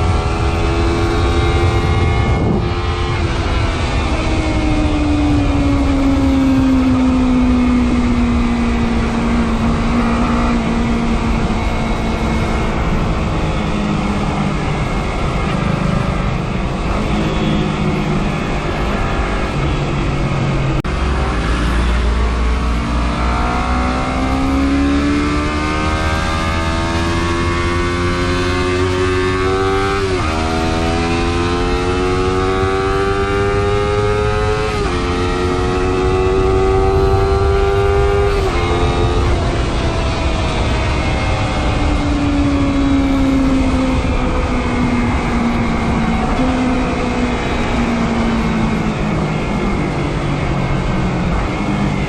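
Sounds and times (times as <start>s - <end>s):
low wind rumble: 0.0s - 52.0s
motorcycle engine accelerating: 0.0s - 52.0s.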